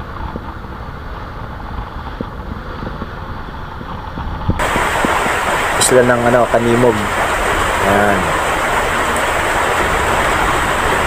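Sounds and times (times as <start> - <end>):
boat engine rumbling: 0.0 - 11.0
water washing along hull: 0.1 - 11.0
wind on microphone: 1.6 - 11.0.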